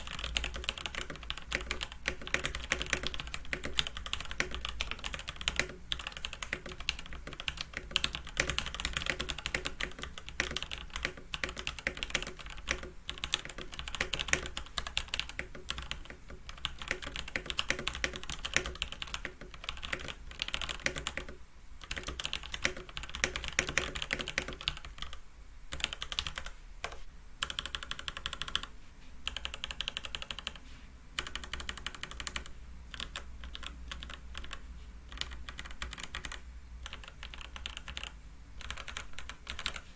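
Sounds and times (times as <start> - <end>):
mechanical keyboard typing: 0.0 - 30.6, 31.2 - 39.9.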